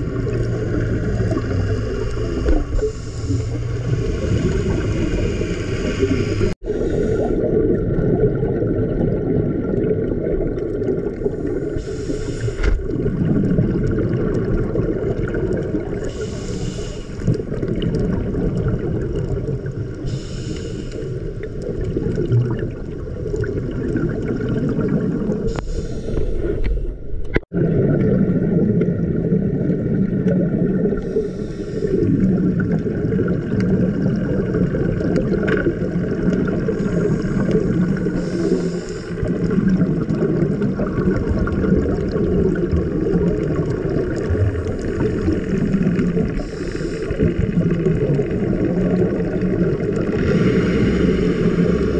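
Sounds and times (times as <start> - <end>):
bubbling regulator exhaust: 0.0 - 26.7, 27.4 - 51.9
low underwater rumble: 0.0 - 51.9.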